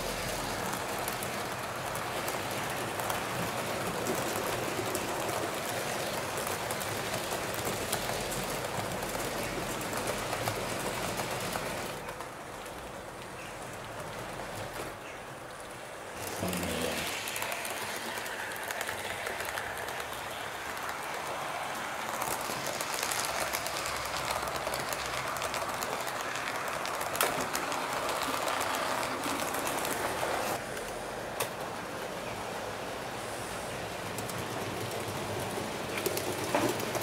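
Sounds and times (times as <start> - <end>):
model train wheels rolling: 0.0 - 37.0.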